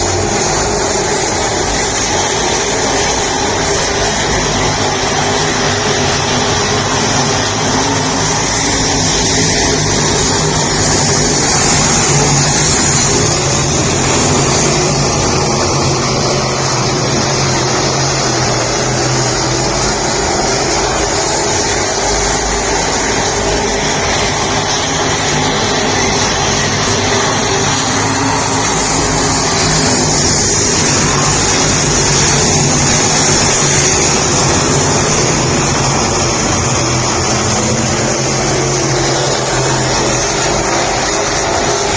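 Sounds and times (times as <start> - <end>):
engines running: 0.0 - 41.9.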